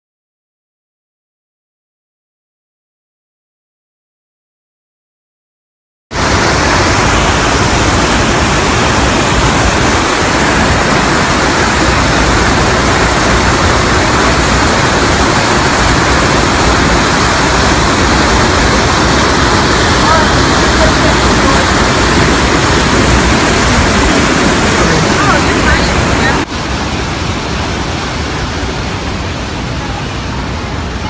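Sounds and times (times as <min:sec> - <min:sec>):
waterfall rushing: 0:06.1 - 0:31.0.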